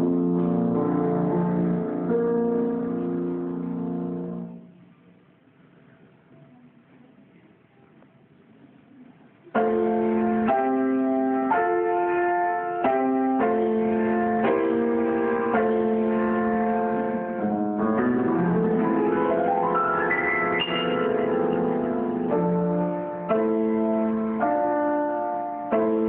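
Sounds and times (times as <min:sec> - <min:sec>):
grand piano playing: 0:00.0 - 0:04.7, 0:09.6 - 0:26.0.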